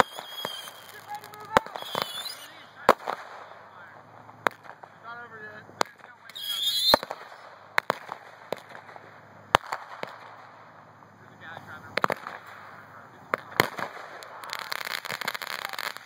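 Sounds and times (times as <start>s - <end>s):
fire crackling: 0.0s - 16.0s
fireworks bangs and pops: 0.0s - 16.0s.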